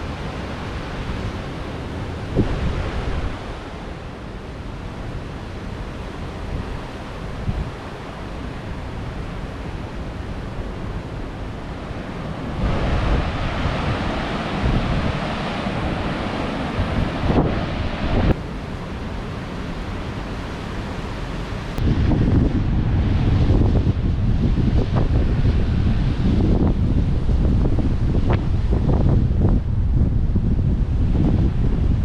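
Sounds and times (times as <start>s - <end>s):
wind buffeting microphone: 0.0s - 4.0s, 9.5s - 32.0s.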